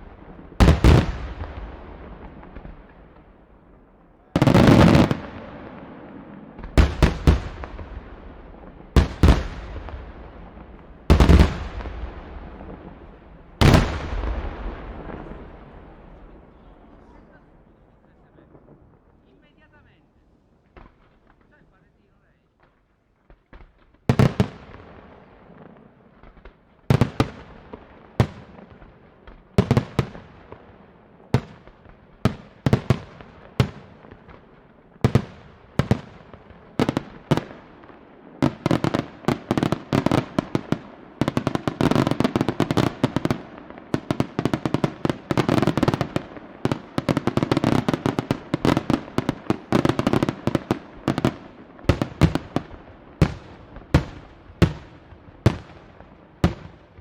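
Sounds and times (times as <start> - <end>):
fireworks bursting with bangs: 0.0 - 20.0, 20.6 - 57.0.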